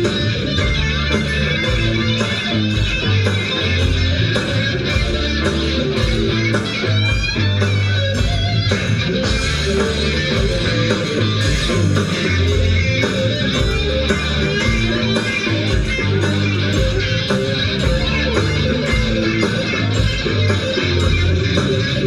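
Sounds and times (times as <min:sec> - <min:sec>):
lead guitar bending notes: 0:00.0 - 0:22.0
live rock band playing: 0:00.0 - 0:22.0.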